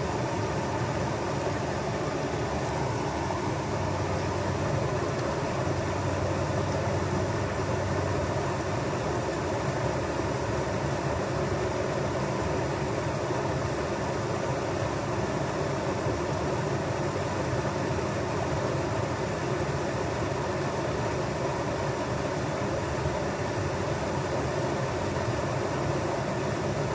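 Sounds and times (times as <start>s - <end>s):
small waterfall rushing: 0.0s - 26.9s.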